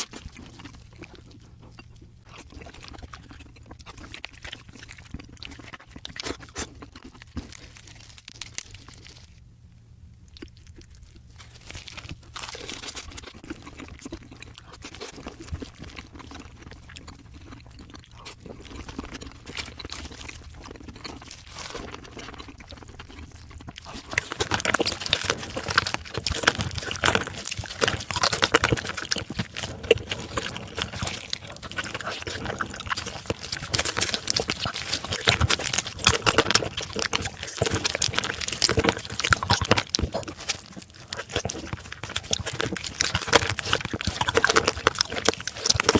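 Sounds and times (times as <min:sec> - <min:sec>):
wet chewing and sucking: 0:00.0 - 0:09.4, 0:10.1 - 0:45.9
crab shell crunching: 0:00.0 - 0:45.9.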